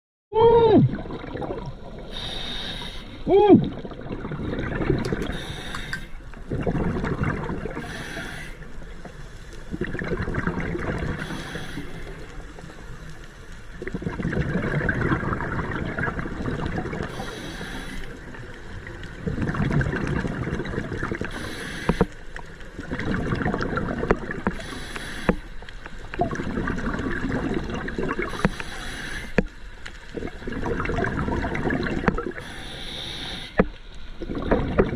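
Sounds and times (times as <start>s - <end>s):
water sloshing and splashing: 0.7s - 34.9s.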